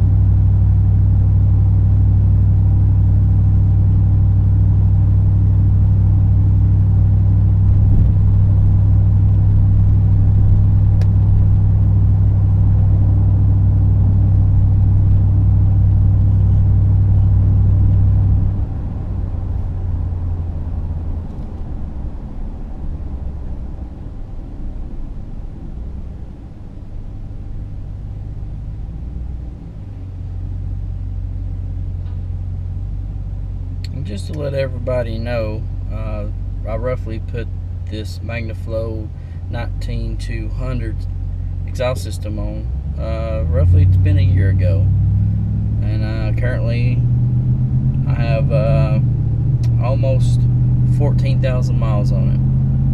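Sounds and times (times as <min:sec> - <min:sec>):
truck exhaust drone: 0:00.0 - 0:52.9.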